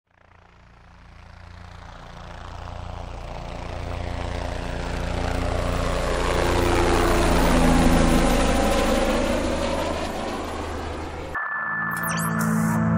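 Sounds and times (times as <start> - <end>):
helicopter engine and rotor drone: 0.1 - 12.7.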